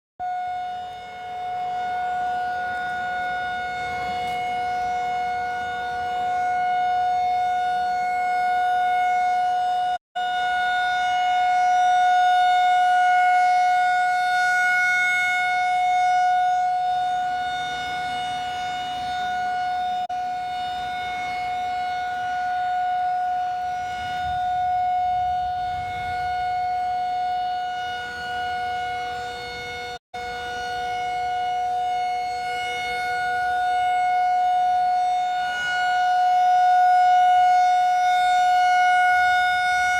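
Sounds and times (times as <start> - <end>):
warning siren two-note chord: 0.2 - 39.9.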